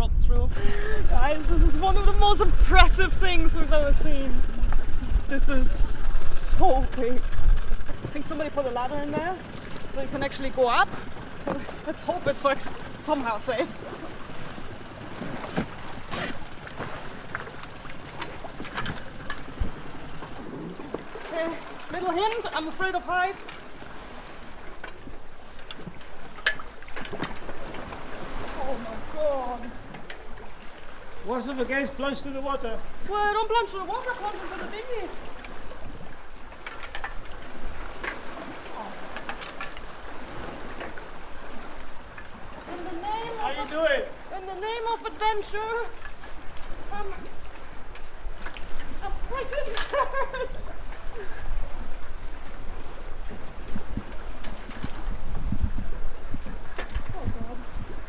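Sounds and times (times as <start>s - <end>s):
small waves lapping against hull: 0.0s - 58.0s
water and wind: 0.0s - 58.0s.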